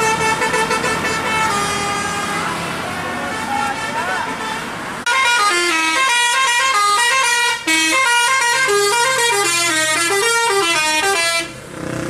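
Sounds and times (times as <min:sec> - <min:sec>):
musical bus air horn: 0:00.0 - 0:11.6.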